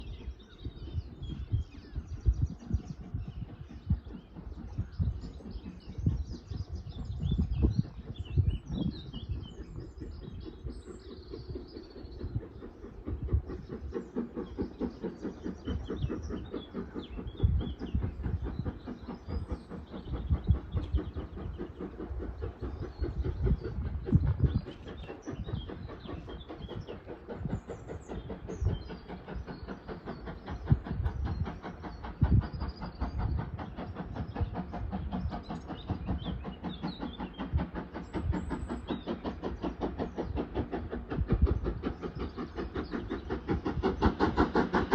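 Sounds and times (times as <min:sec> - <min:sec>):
birds singing: 0:00.0 - 0:44.9
steam locomotive exhaust beating: 0:00.0 - 0:44.9.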